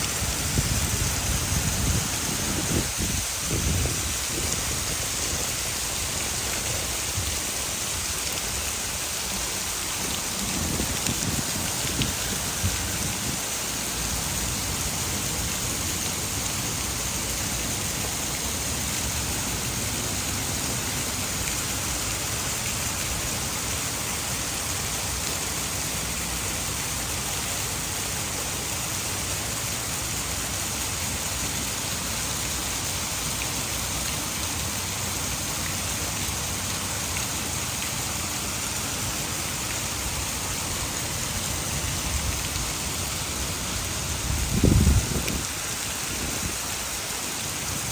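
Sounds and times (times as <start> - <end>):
heavy rain falling: 0.0 - 47.9
water pouring from a dam: 0.0 - 47.9.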